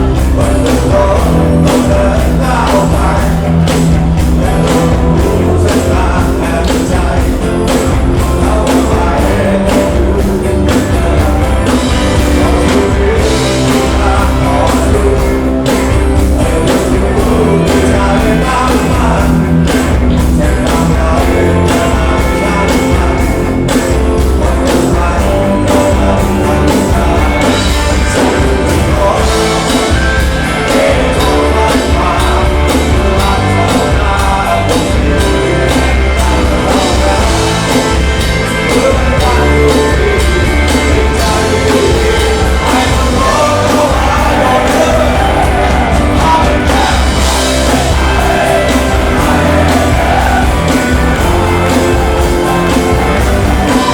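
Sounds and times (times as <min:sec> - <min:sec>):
rock band with singer: 0:00.0 - 0:53.9.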